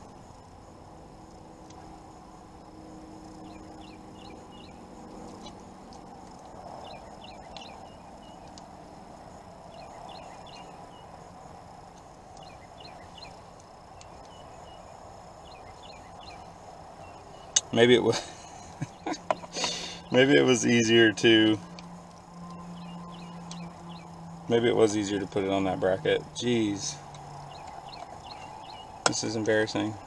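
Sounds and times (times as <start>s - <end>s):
small bird chirping: 0.0s - 30.0s
steady low hiss: 0.0s - 30.0s.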